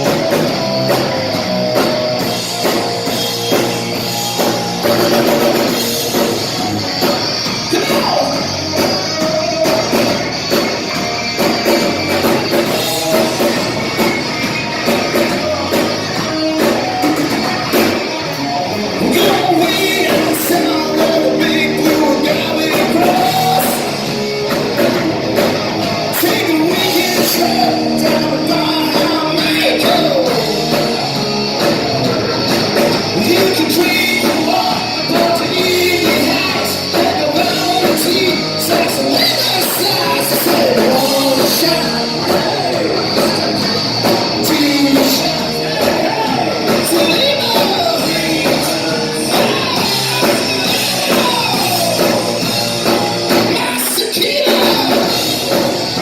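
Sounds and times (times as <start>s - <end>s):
rock band playing live: 0.0s - 56.0s
person singing: 1.8s - 56.0s.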